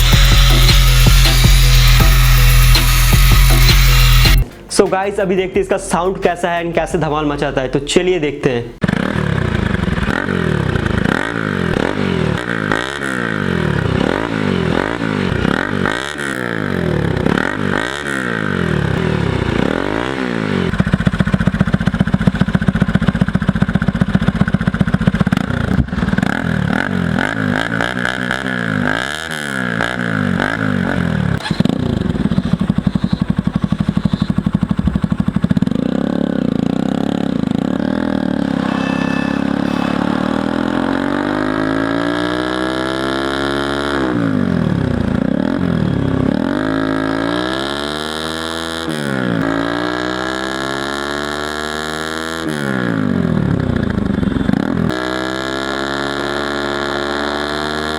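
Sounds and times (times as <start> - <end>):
motorcycle engine revving: 0.0 - 4.5, 8.8 - 57.9.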